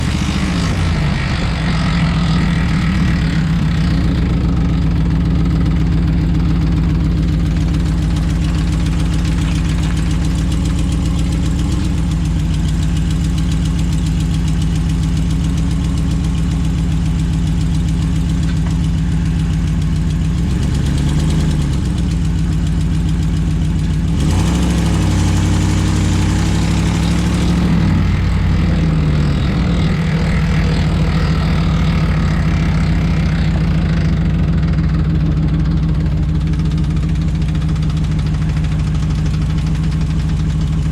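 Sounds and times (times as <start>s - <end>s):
pickup engine running with rattle: 0.0s - 40.9s.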